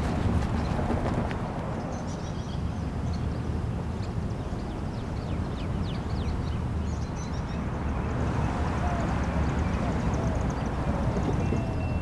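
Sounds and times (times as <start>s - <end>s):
birds chirping: 1.7s - 12.0s.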